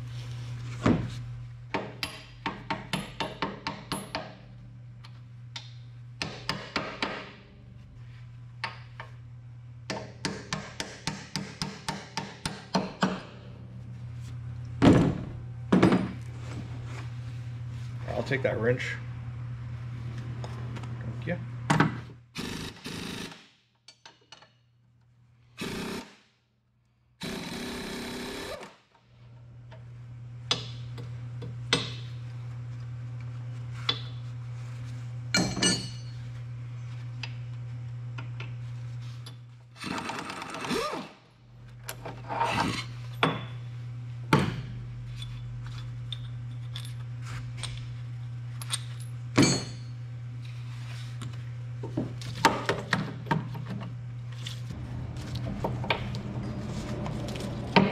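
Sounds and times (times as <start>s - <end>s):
steady low hum: 0.0s - 22.8s, 29.1s - 39.8s, 41.2s - 57.9s.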